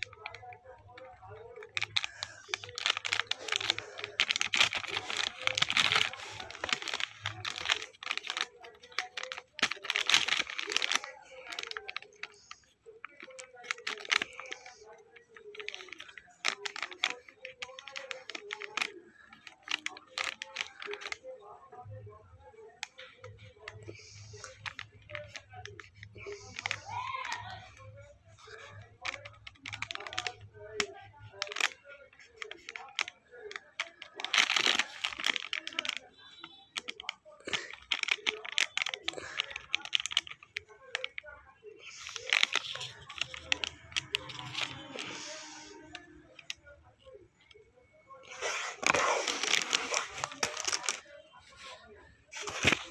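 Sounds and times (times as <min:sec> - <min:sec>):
plastic packet crinkling: 0:00.0 - 0:52.9
plastic wrapper crackling: 0:00.0 - 0:52.9.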